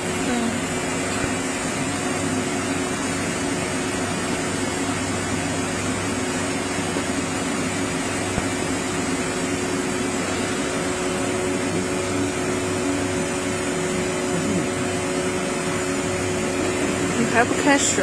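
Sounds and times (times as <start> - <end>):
cnc router humming and whining: 0.0 - 18.0.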